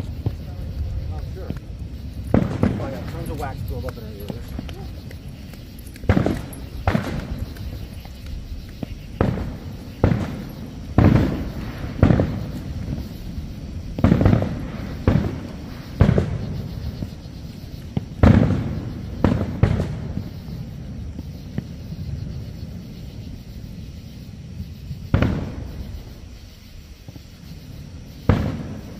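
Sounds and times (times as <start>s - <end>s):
fireworks booming: 0.0s - 28.9s.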